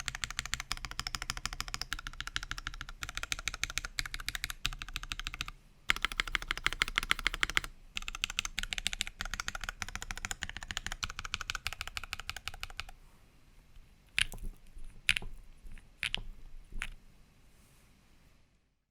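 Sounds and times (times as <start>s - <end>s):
mechanical keyboard typing: 0.0s - 13.0s, 14.1s - 17.0s.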